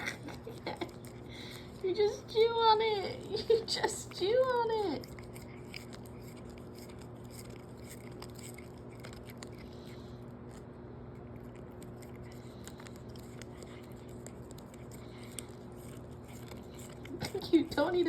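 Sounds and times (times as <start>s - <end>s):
cat chewing crunchy treat: 0.0s - 18.0s
steady low hum: 0.0s - 18.0s.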